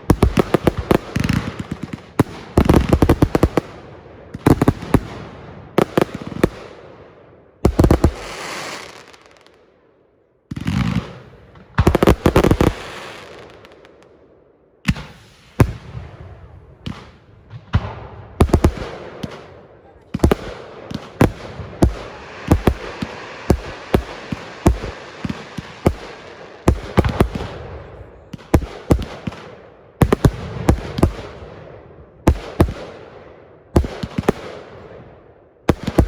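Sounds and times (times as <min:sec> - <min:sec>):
fireworks bangs and crackling: 0:00.0 - 0:09.7, 0:10.5 - 0:36.0.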